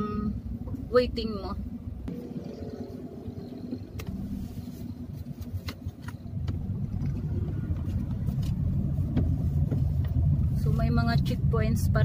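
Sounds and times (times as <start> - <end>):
car engine: 0.0 - 12.0
road rumble: 0.0 - 12.0.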